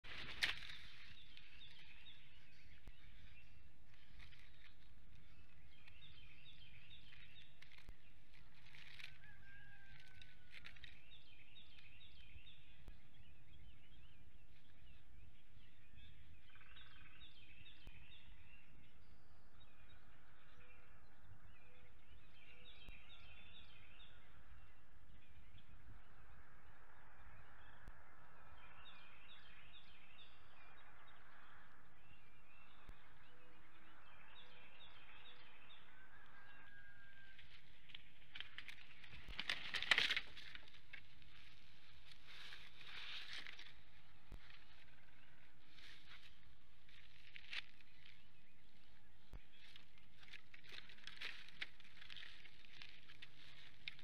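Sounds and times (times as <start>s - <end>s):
birds calling: 0.0s - 54.0s.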